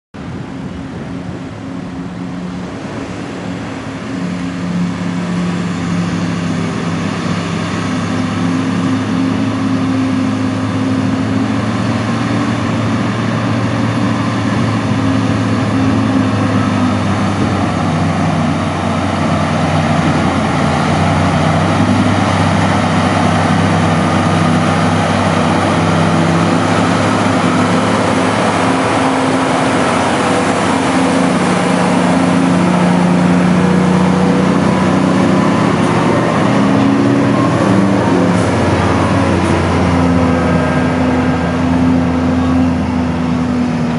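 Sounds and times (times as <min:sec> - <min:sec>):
dump truck diesel engine running: 0:00.2 - 0:43.9.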